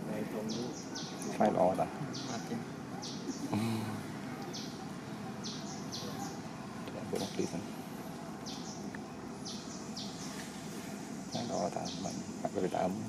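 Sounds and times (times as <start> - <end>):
bird chirping: 0.0 - 13.0
steady background hiss: 0.0 - 13.0.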